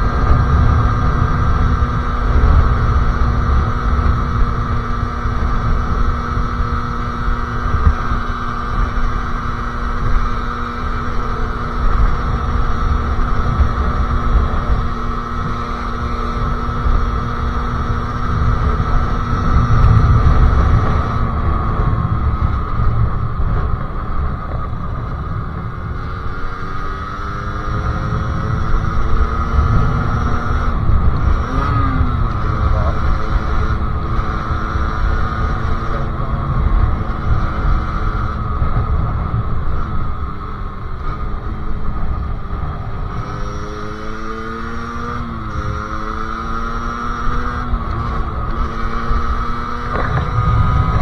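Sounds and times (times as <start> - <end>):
two-stroke moped engine running: 0.0 - 51.0
wind buffeting microphone: 0.0 - 51.0.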